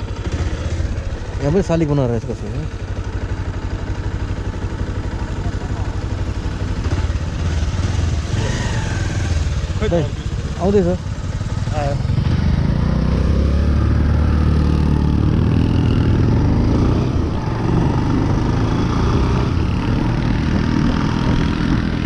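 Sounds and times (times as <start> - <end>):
motorcycle engine running: 0.0 - 22.0
road and wind noise: 0.0 - 22.0.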